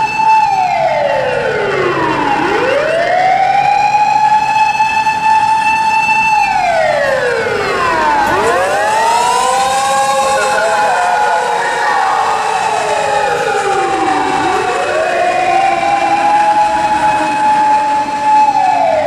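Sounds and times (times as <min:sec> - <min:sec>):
ambulance siren: 0:00.0 - 0:19.0.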